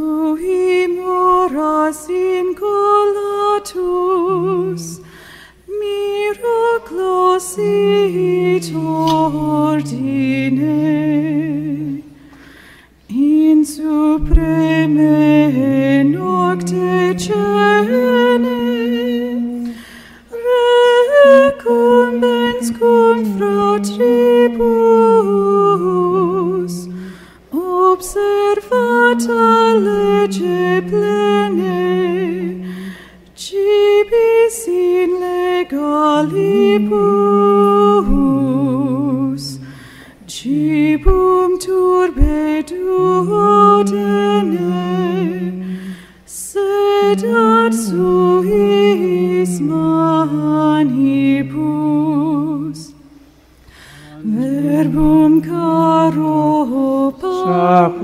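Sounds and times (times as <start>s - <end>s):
voices singing a hymn: 0.0s - 53.1s, 53.8s - 58.0s.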